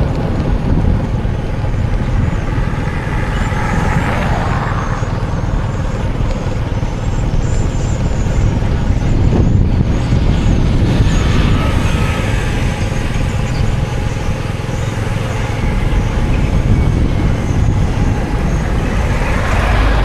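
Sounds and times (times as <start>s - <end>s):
low traffic rumble: 0.0s - 20.0s.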